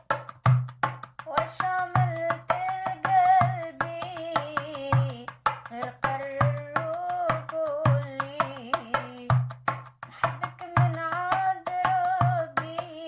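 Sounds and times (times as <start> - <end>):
percussion beat: 0.0 - 13.0
woman singing: 1.2 - 9.4, 10.1 - 13.0.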